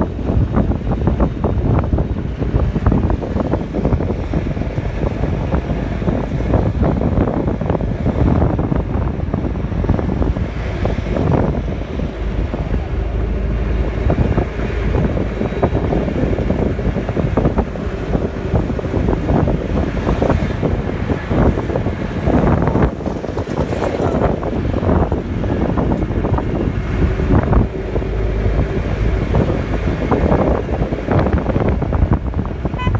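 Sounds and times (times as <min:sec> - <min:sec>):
vehicle rumble on road: 0:00.0 - 0:32.9
wind buffeting microphone: 0:00.0 - 0:32.9.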